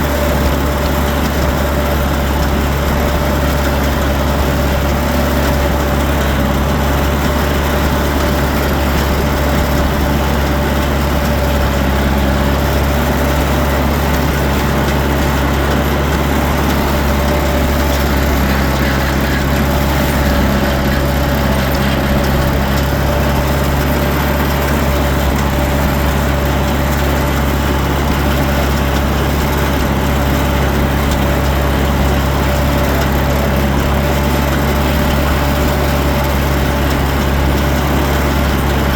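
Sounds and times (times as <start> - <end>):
tractor engine drone with whine: 0.0 - 38.9.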